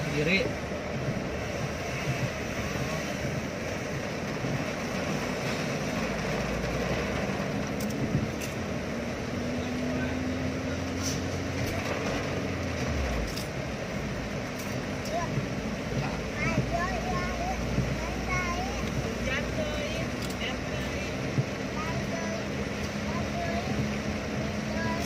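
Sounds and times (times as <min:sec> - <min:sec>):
heavy rain on windscreen: 0:00.0 - 0:25.0
low hum of car and traffic: 0:00.0 - 0:25.0
windscreen wipers sweeping: 0:00.0 - 0:25.0.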